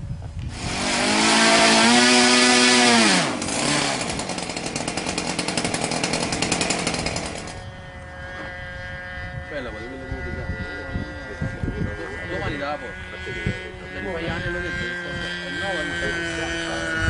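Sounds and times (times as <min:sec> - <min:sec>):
model engine high revs: 0:00.5 - 0:11.5, 0:12.2 - 0:17.0
model engine pulsing slowly: 0:00.6 - 0:17.0.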